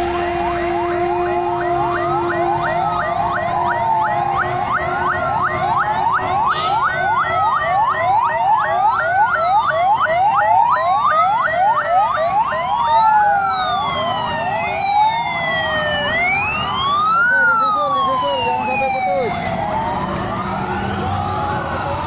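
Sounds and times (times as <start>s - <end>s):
fast yelp siren: 0.0s - 22.0s
wailing sirens: 0.0s - 22.0s.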